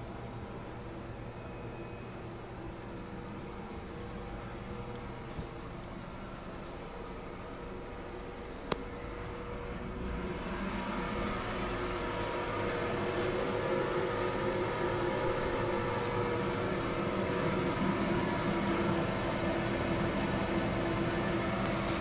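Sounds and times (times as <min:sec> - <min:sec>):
train running noise inside coach: 0:00.0 - 0:22.0.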